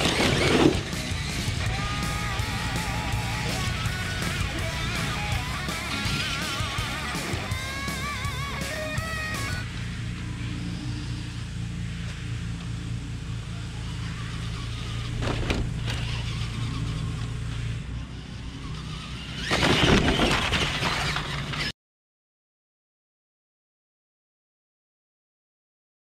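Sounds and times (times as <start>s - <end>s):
rattling surge: 0.0s - 21.7s
toy truck electric motor drone: 0.0s - 21.7s.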